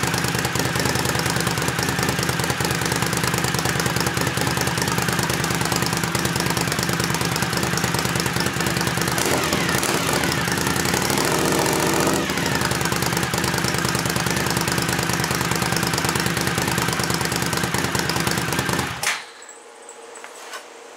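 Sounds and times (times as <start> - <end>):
motorcycle engine idling loudly: 0.0 - 19.0.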